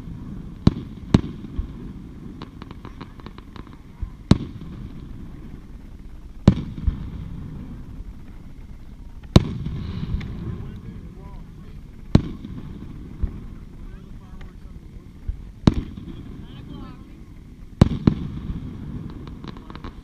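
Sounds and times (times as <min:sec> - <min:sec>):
distant firework bangs: 0:00.0 - 0:20.0
faint firework crackles: 0:00.0 - 0:20.0.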